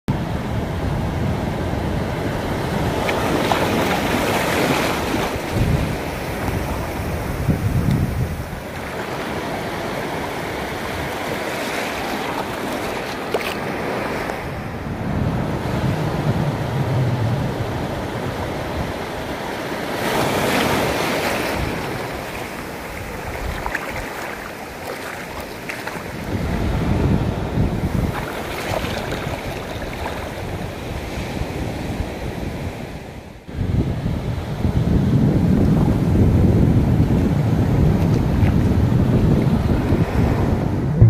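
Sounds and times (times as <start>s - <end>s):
surf washing over sand: 0.1s - 41.0s
wind rumble on microphone: 0.1s - 41.0s.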